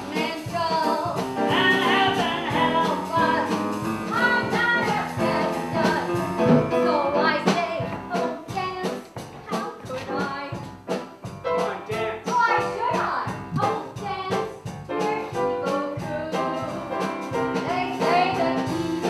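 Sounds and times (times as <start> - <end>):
singing with instrumental accompaniment: 0.0 - 19.0.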